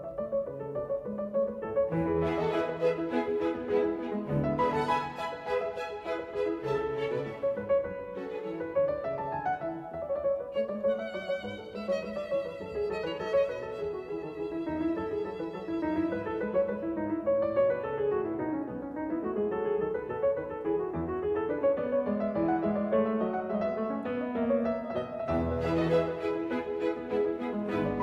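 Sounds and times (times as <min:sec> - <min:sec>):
instrumental music with violin melody: 0:01.6 - 0:18.4, 0:20.9 - 0:28.0.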